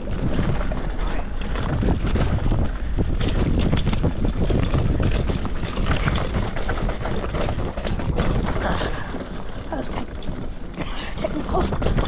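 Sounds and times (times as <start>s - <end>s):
mountain bike rattling on rough trail: 0.0s - 12.0s
wind buffeting microphone: 0.0s - 12.0s.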